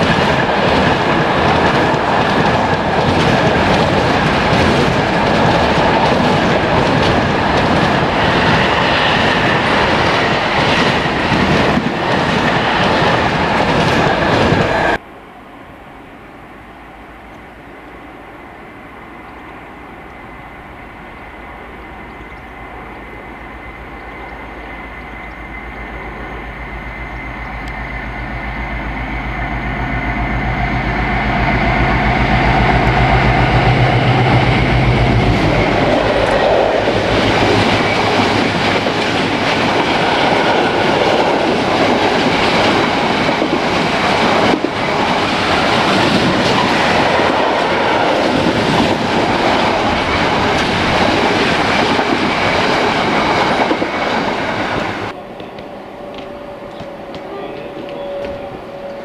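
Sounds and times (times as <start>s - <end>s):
train wheels clattering on rail joints: 0.0s - 15.0s, 21.1s - 59.0s
train engine hum: 0.0s - 59.0s.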